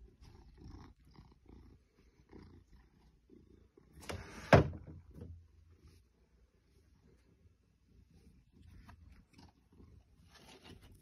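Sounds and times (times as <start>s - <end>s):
cat purring faintly: 0.0s - 4.0s, 5.4s - 11.0s.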